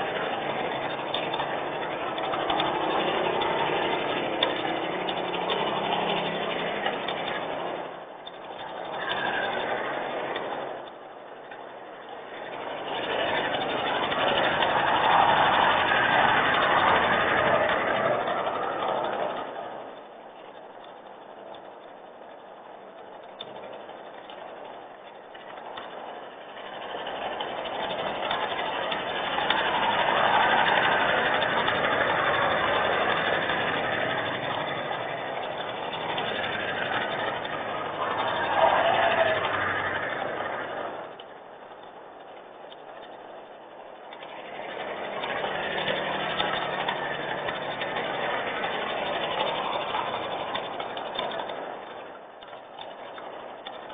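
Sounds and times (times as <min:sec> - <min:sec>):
tyres hissing on wet road: 0:00.0 - 0:19.9, 0:26.1 - 0:53.9.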